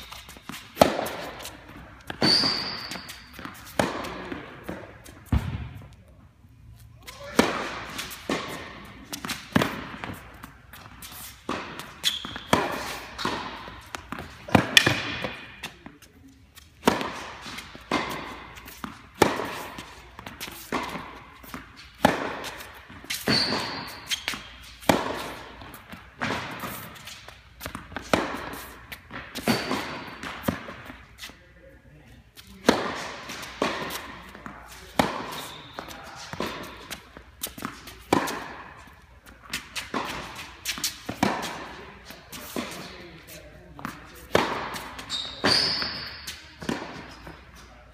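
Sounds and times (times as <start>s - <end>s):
tennis balls struck by racquets: 0.0s - 6.0s, 7.2s - 31.4s, 32.4s - 47.7s
tennis balls bouncing on hard court: 0.0s - 6.1s, 7.2s - 31.4s, 32.4s - 47.7s.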